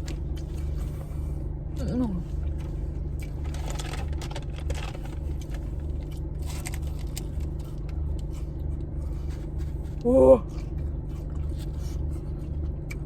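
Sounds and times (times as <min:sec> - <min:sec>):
car low hum: 0:00.0 - 0:13.0
person chewing crunchy food: 0:02.3 - 0:13.0.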